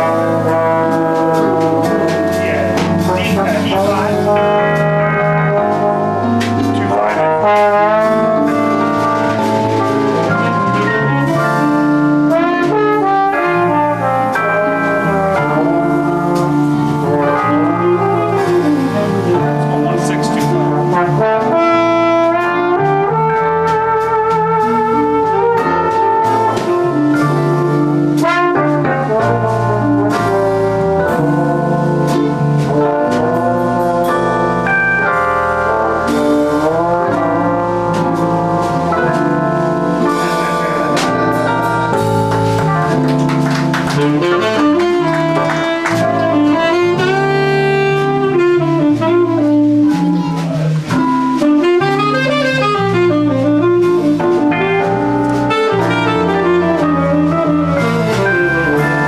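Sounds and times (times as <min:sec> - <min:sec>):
jazz combo playing: 0:00.0 - 0:59.0
saxophone playing: 0:00.0 - 0:59.0.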